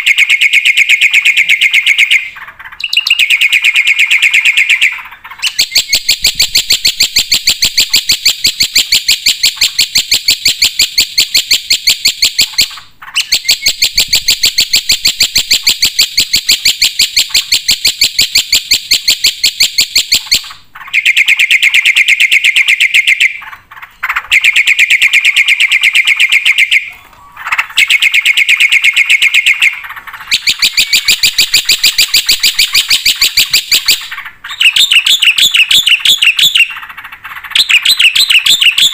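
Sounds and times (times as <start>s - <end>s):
myna bird harsh chattering song: 0.0s - 38.9s.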